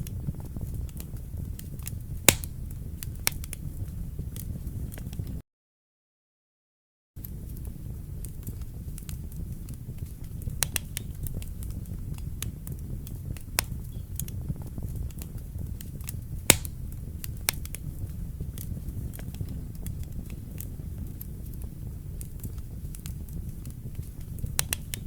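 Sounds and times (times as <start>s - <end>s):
wood fire burning: 0.0s - 5.4s, 7.2s - 25.0s.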